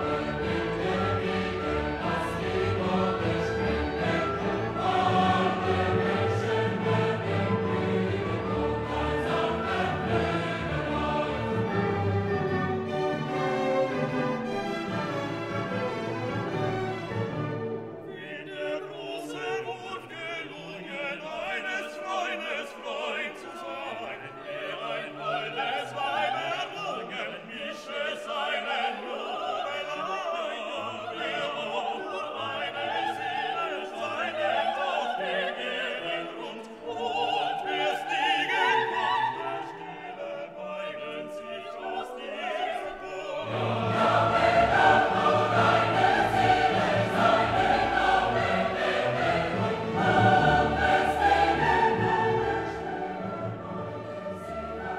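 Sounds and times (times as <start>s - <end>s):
choir singing: 0.0s - 54.9s
orchestral music: 0.0s - 54.9s.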